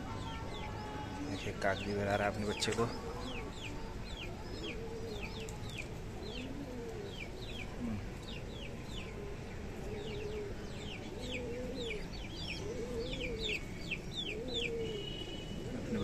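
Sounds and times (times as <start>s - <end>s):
pigeons cooing: 1.0s - 16.0s.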